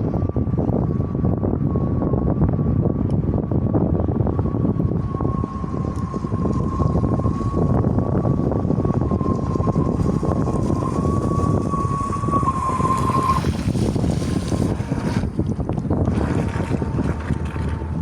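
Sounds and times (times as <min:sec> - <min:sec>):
high whine of electric motors: 0:00.0 - 0:18.0
wind buffeting microphone: 0:00.0 - 0:18.0.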